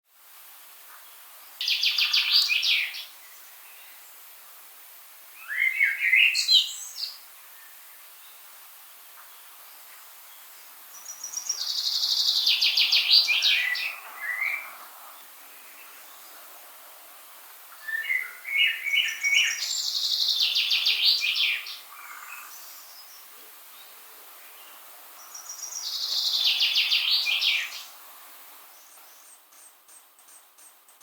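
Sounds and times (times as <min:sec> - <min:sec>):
songbird singing: 0:00.9 - 0:31.0.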